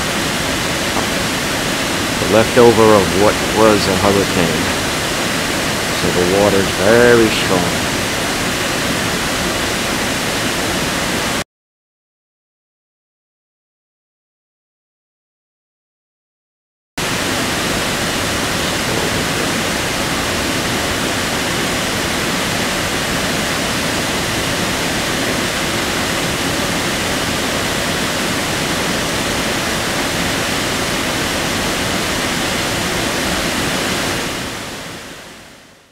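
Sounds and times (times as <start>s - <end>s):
waterfall rushing: 0.0s - 11.4s, 17.0s - 35.6s.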